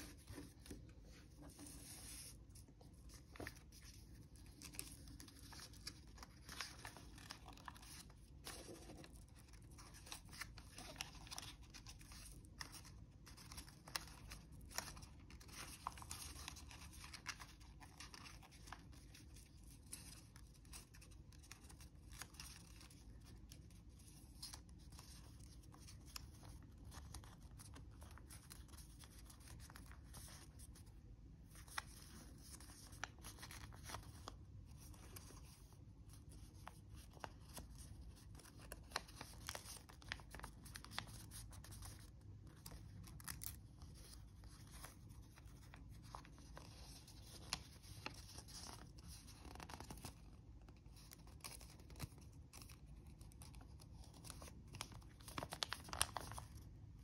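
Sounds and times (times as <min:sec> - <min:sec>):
paper rustling and crinkling: 0:00.0 - 0:57.0.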